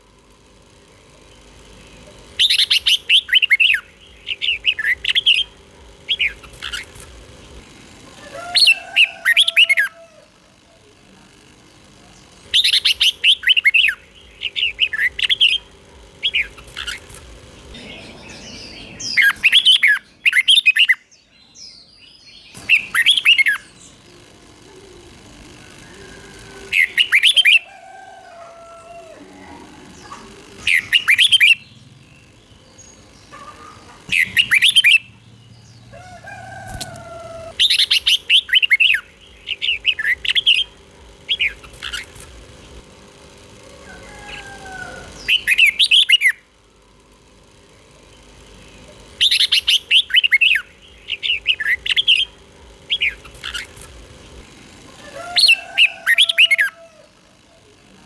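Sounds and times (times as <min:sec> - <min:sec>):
bird singing warbled phrases: 0:00.7 - 0:43.0, 0:43.7 - 0:46.9, 0:47.6 - 0:58.0.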